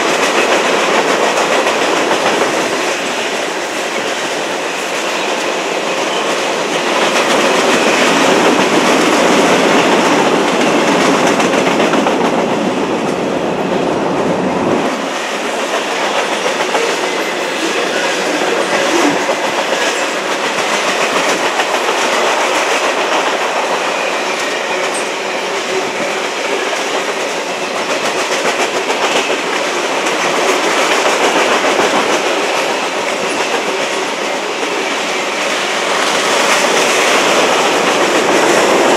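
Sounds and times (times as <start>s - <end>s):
deep train rumble: 0.0s - 38.9s
train wheels clickety-clack: 0.0s - 38.9s.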